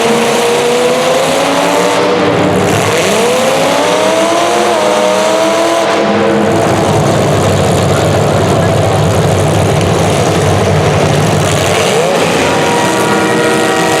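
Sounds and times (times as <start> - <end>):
racing engines revving: 0.0 - 14.0.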